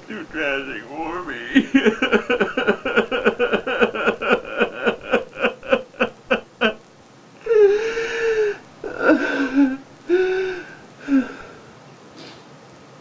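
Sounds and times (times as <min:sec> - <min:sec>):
man sobbing: 0:00.0 - 0:06.8, 0:07.4 - 0:11.6
man wailing: 0:00.1 - 0:06.8, 0:07.4 - 0:11.5.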